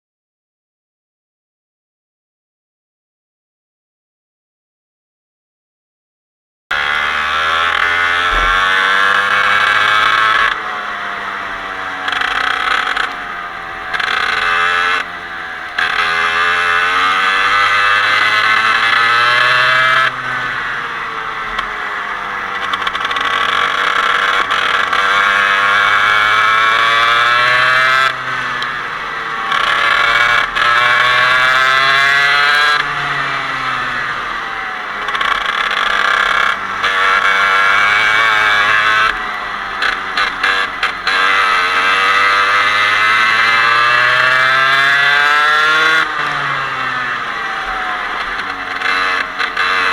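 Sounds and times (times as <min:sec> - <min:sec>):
kart engine revving hard: 0:06.7 - 0:49.9.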